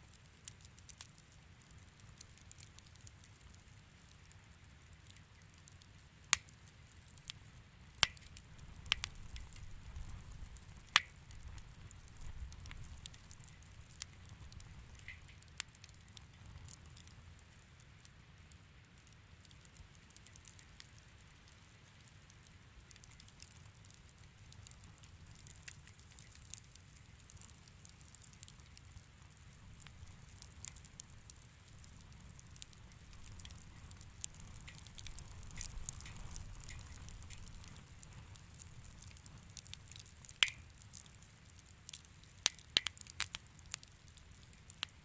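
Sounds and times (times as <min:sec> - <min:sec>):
faint low rumble of flames: 0:00.0 - 0:45.0
wood fire crackling softly: 0:00.0 - 0:45.0.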